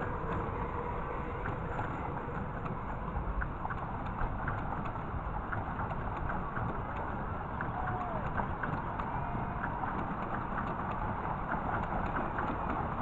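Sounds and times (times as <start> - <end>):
light track clicks: 0.0 - 13.0
miniature train rumbling on track: 0.0 - 13.0.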